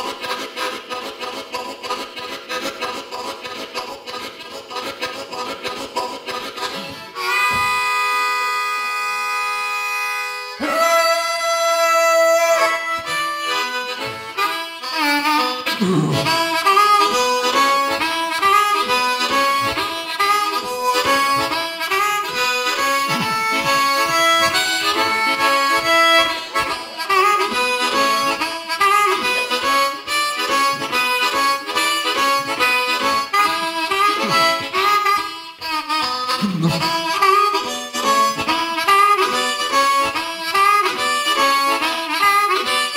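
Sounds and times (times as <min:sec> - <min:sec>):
harmonica imitating a train: 0:00.0 - 0:42.9.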